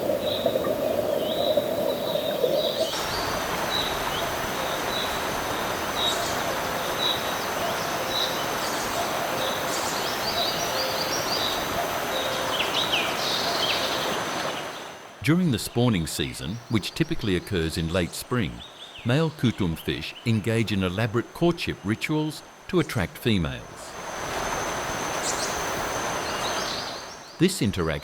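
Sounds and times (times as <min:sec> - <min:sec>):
flowing river water: 0:00.0 - 0:27.4
birds chirping: 0:00.0 - 0:28.0.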